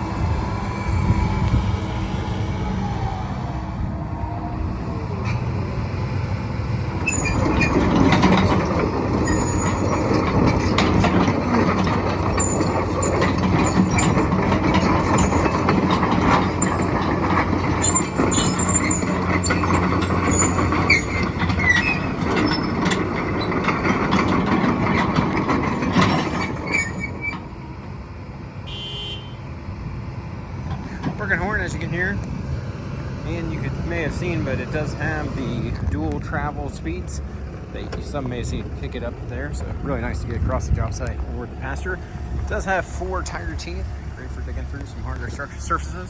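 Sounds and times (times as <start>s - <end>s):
excavator engine under load: 0.0s - 46.0s
steel tracks squealing and clanking: 5.2s - 28.0s, 30.6s - 32.2s, 33.2s - 46.0s.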